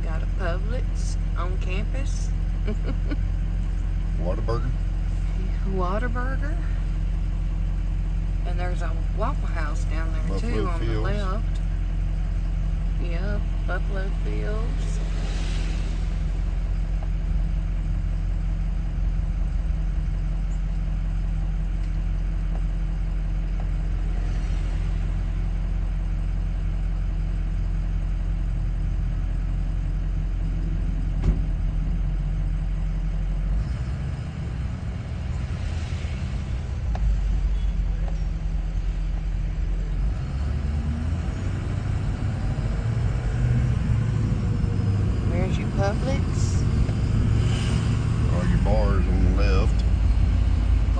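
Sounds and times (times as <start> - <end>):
car road and engine rumble: 0.0 - 50.9.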